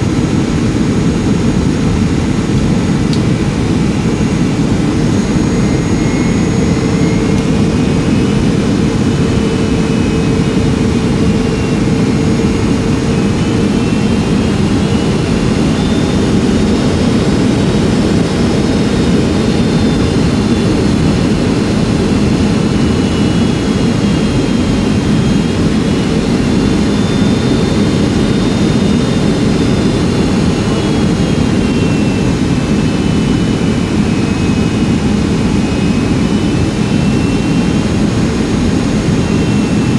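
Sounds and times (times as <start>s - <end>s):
high engine whine: 0.0s - 39.9s
jet engine and airflow roar: 0.0s - 39.9s.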